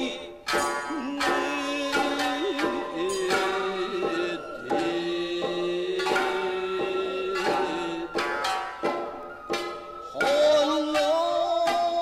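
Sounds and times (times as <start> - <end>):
plucked shamisen: 0.0 - 12.0
sharp hand drum strikes: 0.0 - 12.0.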